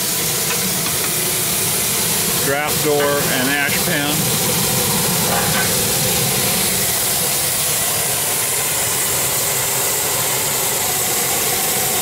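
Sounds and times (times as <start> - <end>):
steam boiler blower hissing: 0.0 - 12.0.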